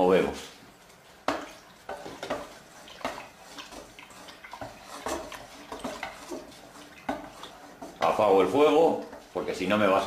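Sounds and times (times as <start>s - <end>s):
spoon stirring milk: 1.0s - 10.0s.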